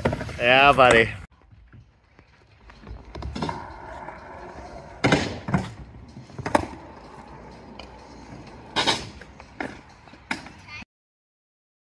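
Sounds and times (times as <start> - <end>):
skateboard wheels rolling on concrete: 0.0 - 10.8.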